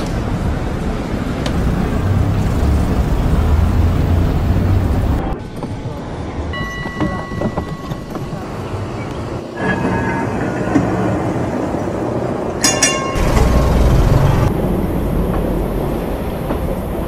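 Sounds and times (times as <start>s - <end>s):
street background: 0.0s - 17.0s
tram running along street: 0.0s - 17.0s.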